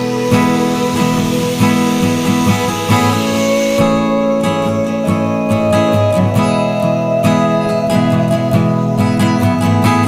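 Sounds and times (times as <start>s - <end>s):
guitar music strummed and plucked: 0.0s - 10.0s.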